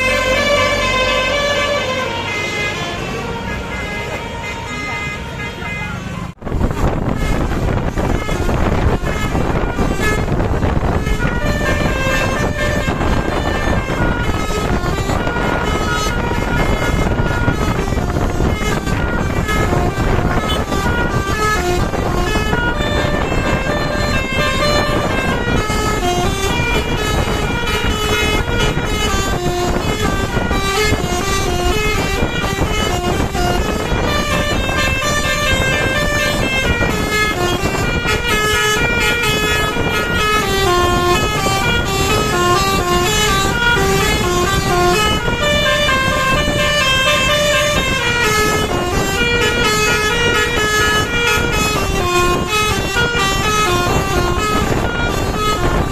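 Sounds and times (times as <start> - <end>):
melodic multi-tone bus horn: 0.0 - 55.9.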